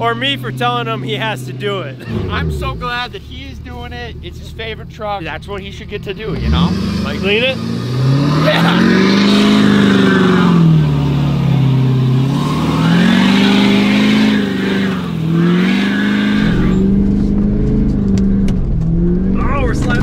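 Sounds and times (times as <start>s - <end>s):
pickup engine revving: 0.0s - 20.0s.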